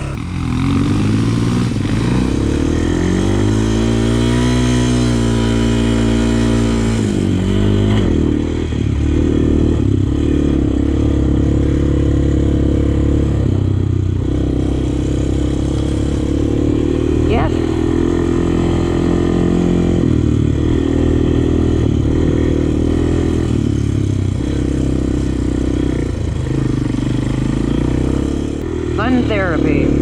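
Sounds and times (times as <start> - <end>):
quad bike engine revving: 0.0 - 30.0.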